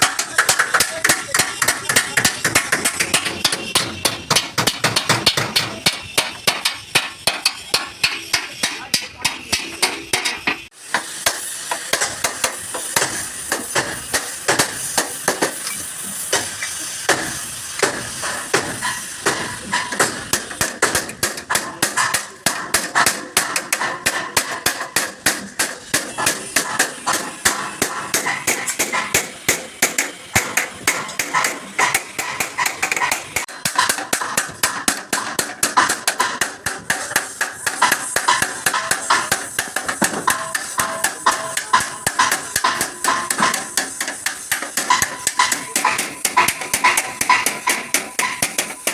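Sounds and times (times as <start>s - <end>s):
hammer beating on sheet metal: 0.0s - 15.6s, 17.1s - 48.9s.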